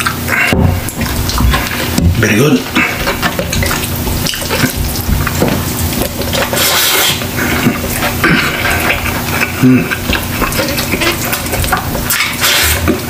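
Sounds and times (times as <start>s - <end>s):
wet chewing and mouth noises: 0.0s - 13.0s.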